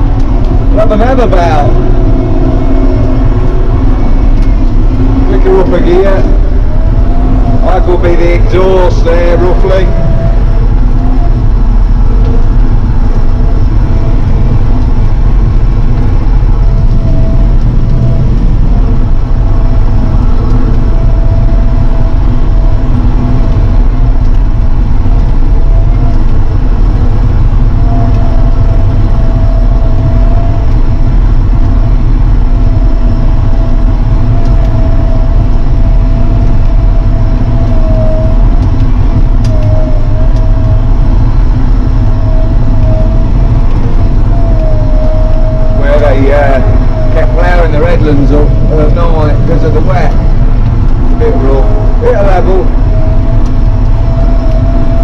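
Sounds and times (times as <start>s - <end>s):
high whine: 0.0s - 55.0s.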